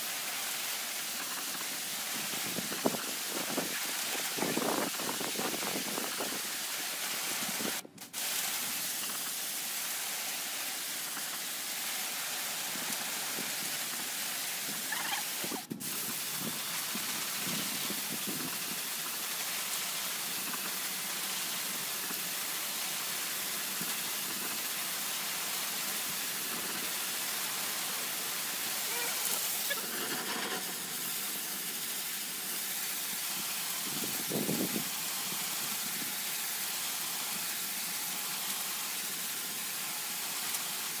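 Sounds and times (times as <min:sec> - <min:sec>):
pressure washer spraying water: 0:00.0 - 0:41.0.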